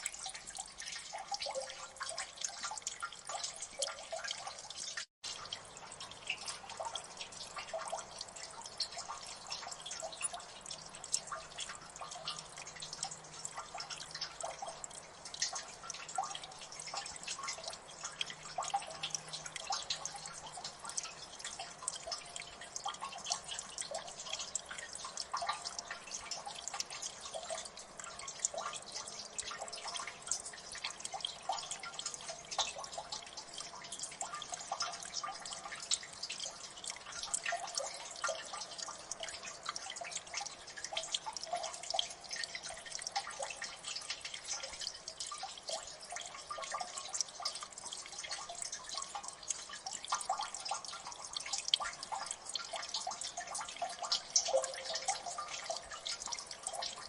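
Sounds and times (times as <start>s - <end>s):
faint water trickle: 0.0s - 57.0s
water drops plinking: 5.3s - 57.0s.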